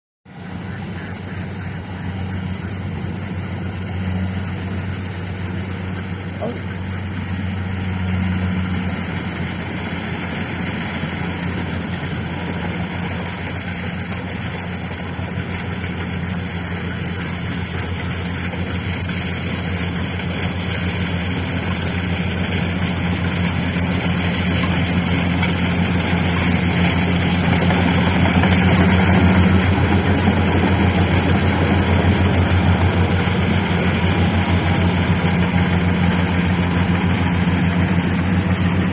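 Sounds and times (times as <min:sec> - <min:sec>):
combine harvester engine humming: 0:00.3 - 0:38.9.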